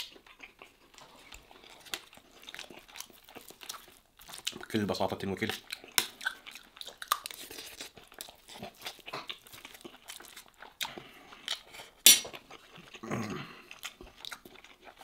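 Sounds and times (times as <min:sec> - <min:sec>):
chewing and mouth noises: 0:00.0 - 0:15.0.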